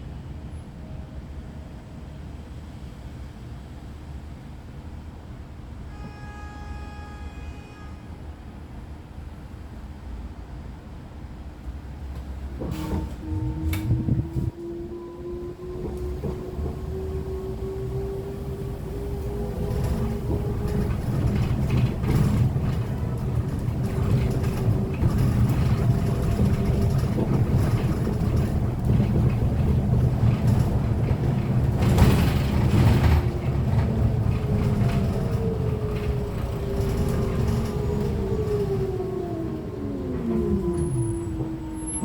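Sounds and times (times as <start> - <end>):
bus road and drivetrain rumble: 0.0 - 7.2, 7.8 - 42.0
bus whine: 0.0 - 42.0.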